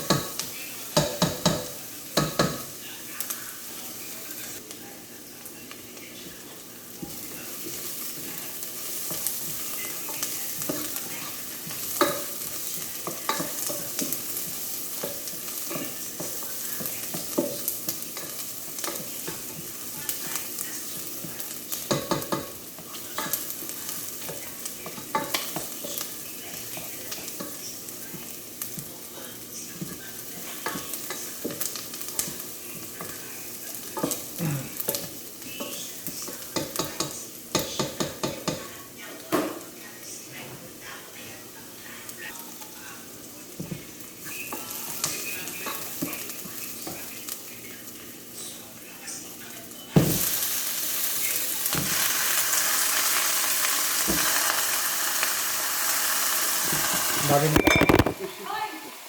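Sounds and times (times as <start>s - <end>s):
chicken sizzling in a pan: 0.0s - 59.0s.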